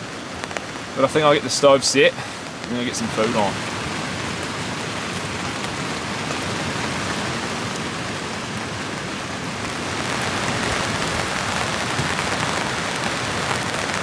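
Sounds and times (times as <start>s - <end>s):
rain on a tent: 0.0s - 14.0s.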